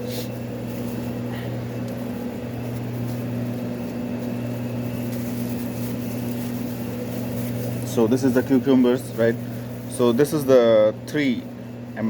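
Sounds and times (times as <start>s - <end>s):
kitchen equipment hum: 0.0s - 12.0s.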